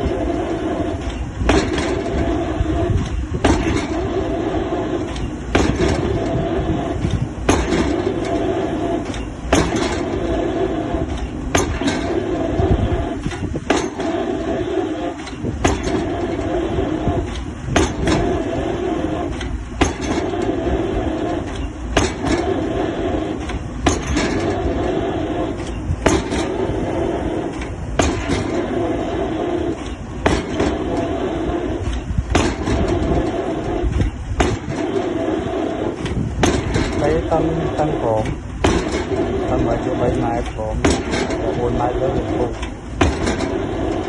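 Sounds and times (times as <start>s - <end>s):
excavator engine running: 0.0s - 44.0s.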